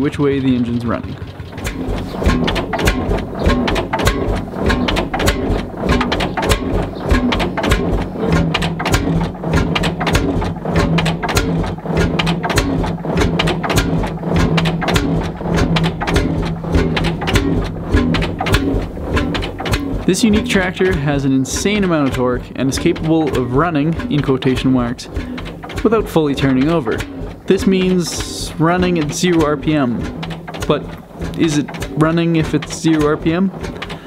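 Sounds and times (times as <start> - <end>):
tractor engine exhaust beats: 0.0 - 34.0.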